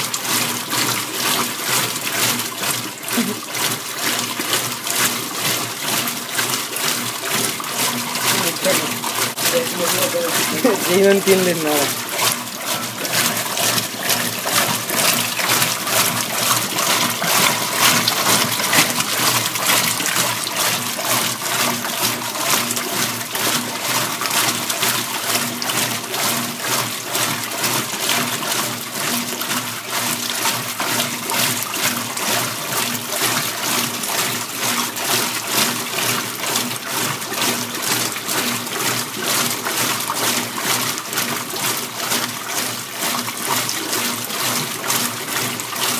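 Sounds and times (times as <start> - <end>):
washing machine low hum: 0.0 - 45.9
water rushing and splashing in tub: 0.0 - 45.9.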